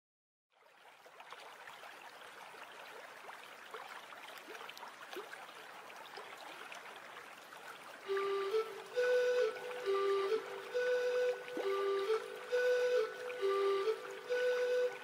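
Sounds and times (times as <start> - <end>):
river stream flowing: 0.6 - 15.0.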